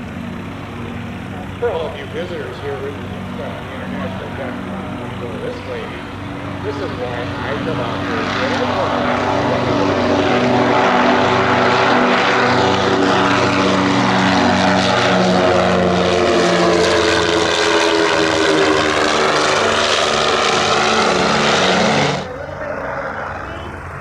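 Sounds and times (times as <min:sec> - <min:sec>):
propeller plane engines: 0:00.0 - 0:24.0.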